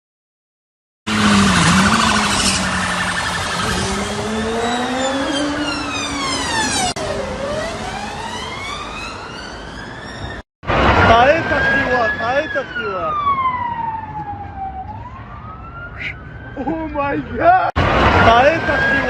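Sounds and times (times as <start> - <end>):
emergency vehicle siren wailing: 1.1 - 19.0.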